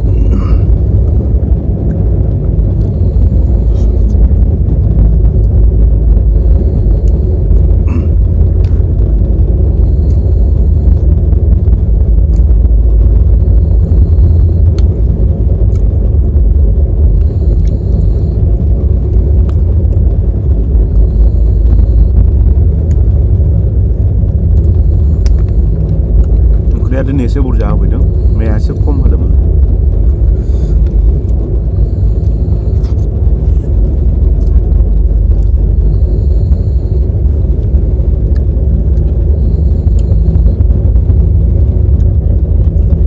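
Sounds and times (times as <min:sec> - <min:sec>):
passenger train rumbling: 0:00.0 - 0:43.0.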